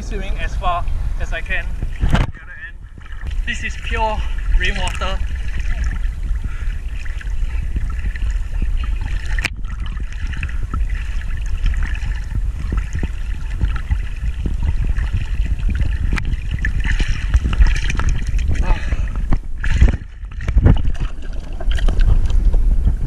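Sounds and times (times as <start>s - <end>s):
low rumble: 0.0s - 23.0s
water lapping and splashing: 0.0s - 23.0s.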